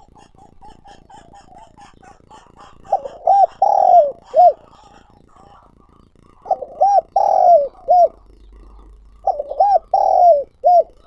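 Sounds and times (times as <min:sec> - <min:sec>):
dove cooing: 0:00.0 - 0:11.0.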